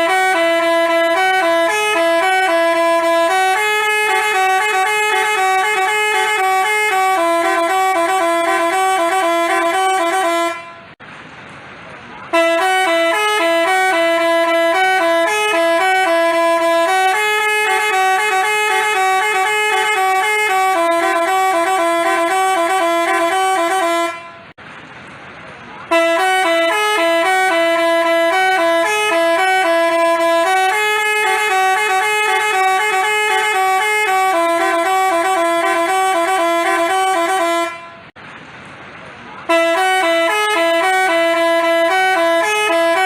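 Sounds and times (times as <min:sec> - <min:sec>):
bus horn playing a melody: 0:00.0 - 0:11.0, 0:12.3 - 0:24.6, 0:25.8 - 0:38.2, 0:39.4 - 0:43.0.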